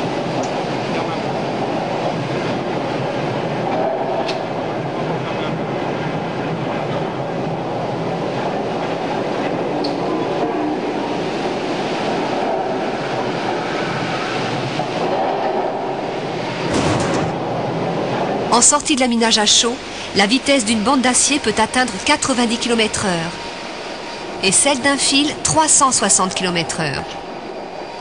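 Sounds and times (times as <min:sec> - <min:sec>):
rolling mill rumbling clatter: 0:00.0 - 0:24.3.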